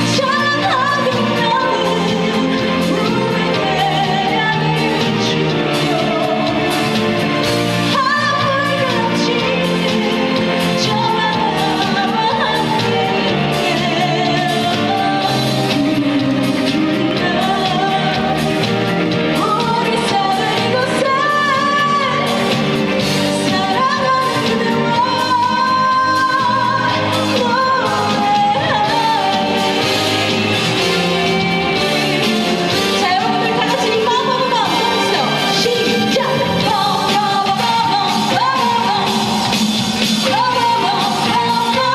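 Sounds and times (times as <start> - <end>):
loud band backing track: 0.0 - 41.9
woman singing with vibrato: 0.0 - 41.9.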